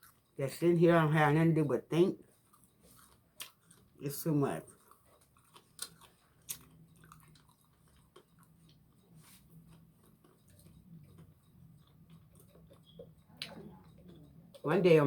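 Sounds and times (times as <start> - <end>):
faint chewing of fried fish: 0.0 - 0.4, 2.2 - 14.6.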